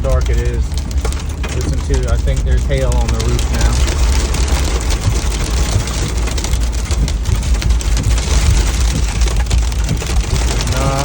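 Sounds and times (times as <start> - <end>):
car low rumble: 0.0 - 11.0
hail and rain on car roof: 0.0 - 11.0.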